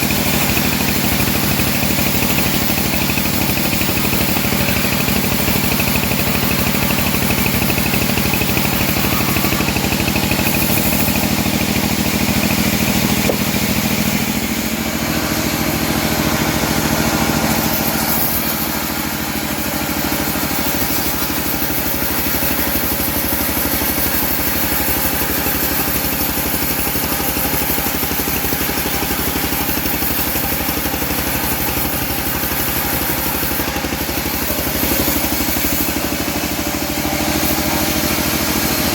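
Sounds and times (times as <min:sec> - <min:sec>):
bandsaw mill engine running: 0:00.0 - 0:38.9.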